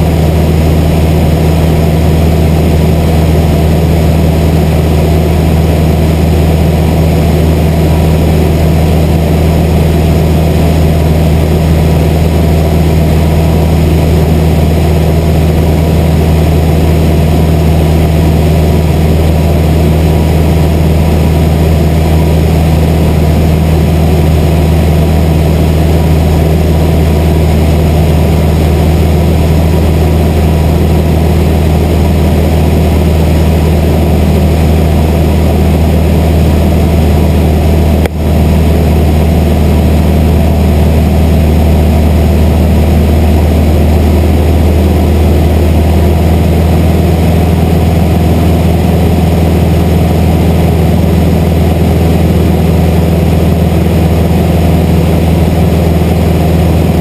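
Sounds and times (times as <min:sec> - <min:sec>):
aircraft engine and propeller droning: 0:00.0 - 0:57.0.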